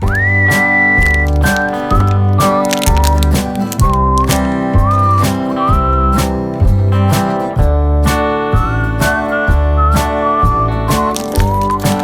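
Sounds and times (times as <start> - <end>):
whistled melody: 0.0 - 7.4, 8.1 - 12.0
steady beat: 0.0 - 12.0
strummed guitar: 0.0 - 12.0.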